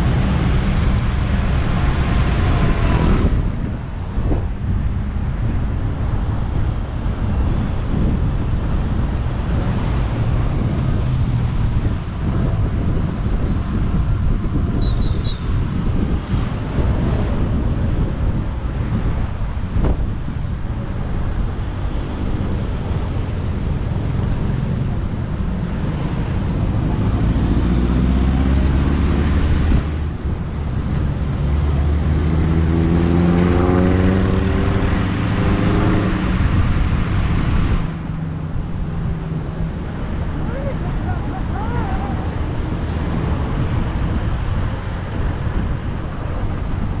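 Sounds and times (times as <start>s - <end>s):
wind and road noise: 0.0s - 47.0s.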